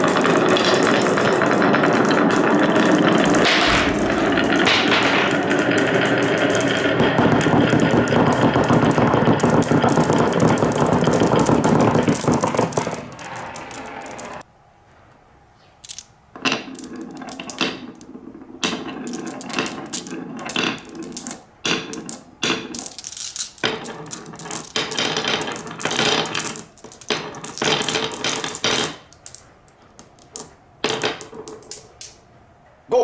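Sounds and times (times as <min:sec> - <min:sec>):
marbles rattling down a track: 0:00.0 - 0:14.4, 0:15.8 - 0:29.4, 0:30.0 - 0:32.2.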